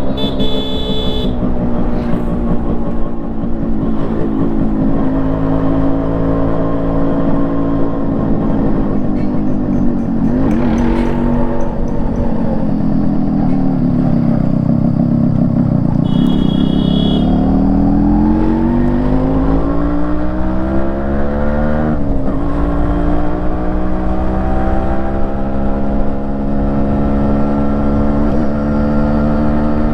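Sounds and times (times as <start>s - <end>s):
two-stroke motorcycle engine revving: 0.0s - 29.9s.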